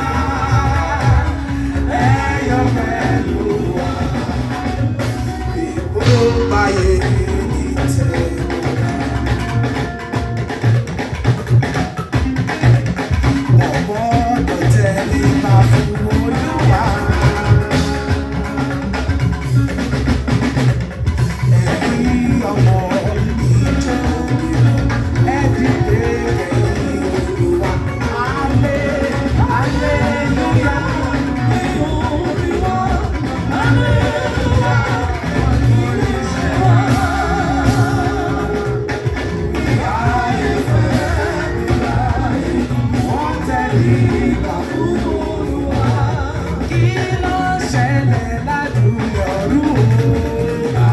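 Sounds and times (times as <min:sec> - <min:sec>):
repeating bass notes: 0:00.0 - 0:13.8, 0:14.6 - 0:49.0
drum kit steady beat: 0:00.0 - 0:50.9
pitched instrument lines: 0:00.0 - 0:50.9.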